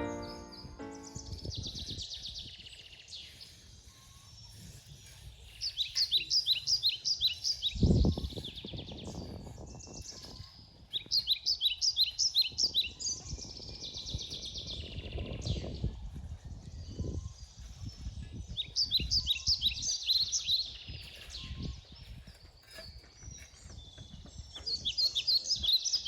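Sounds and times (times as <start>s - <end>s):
songbird chirping and trilling: 0.0s - 26.0s.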